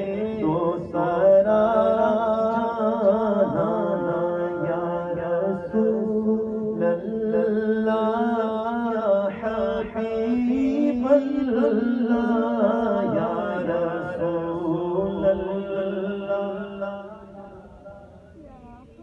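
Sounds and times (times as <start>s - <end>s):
man singing into a microphone: 0.0s - 17.9s.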